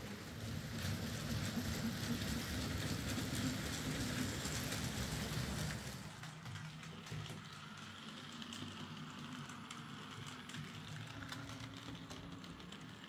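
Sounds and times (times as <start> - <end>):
model train motor hum: 0.0 - 13.0.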